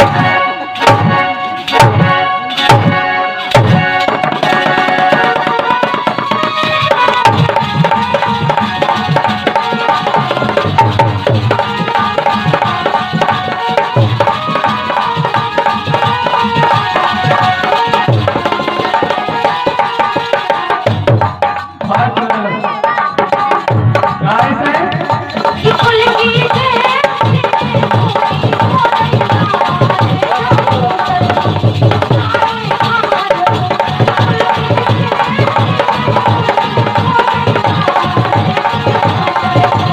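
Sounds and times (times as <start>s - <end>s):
hand drum beat: 3.6s - 39.9s.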